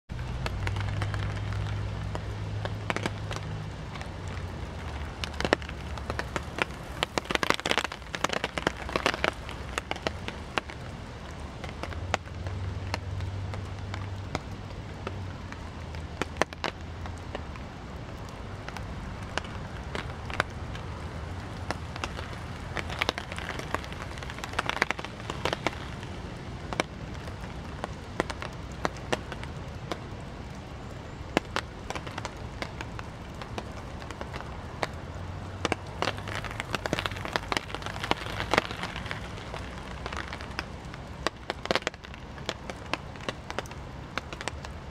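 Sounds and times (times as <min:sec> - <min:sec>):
heavy rain hiss: 0:00.1 - 0:44.9.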